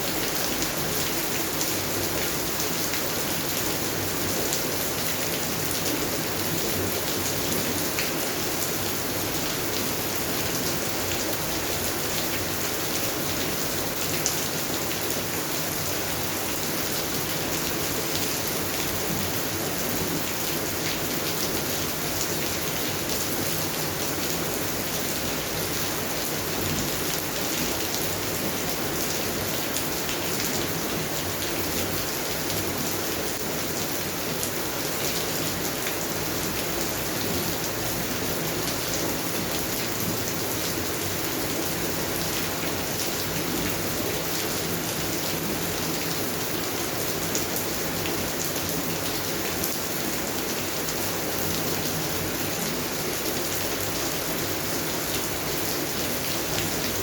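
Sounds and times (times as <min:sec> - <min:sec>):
rain falling on plants: 0:00.0 - 0:57.0.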